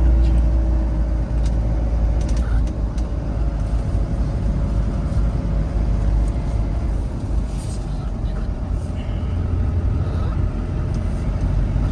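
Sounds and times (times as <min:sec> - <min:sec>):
vehicle engine and road rumble: 0:00.0 - 0:11.9.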